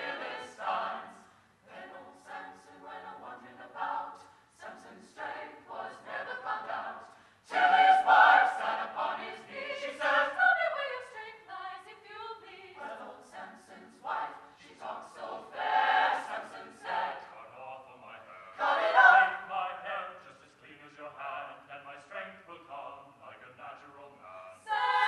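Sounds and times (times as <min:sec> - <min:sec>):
mixed choir singing: 0:00.0 - 0:20.2, 0:24.5 - 0:25.0.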